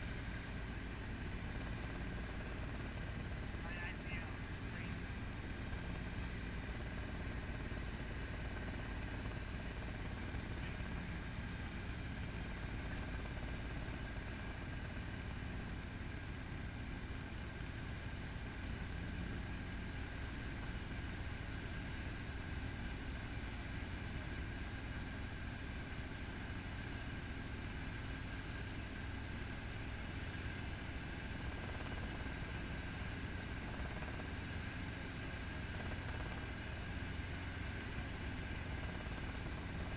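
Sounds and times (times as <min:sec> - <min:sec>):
faint steady whine: 0:00.0 - 0:39.9
helicopter engine and rotor: 0:00.0 - 0:39.9.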